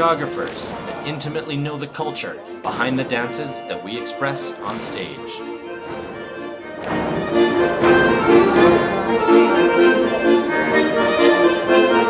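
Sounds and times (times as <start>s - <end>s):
folk dance music with accordion: 0.0s - 12.0s.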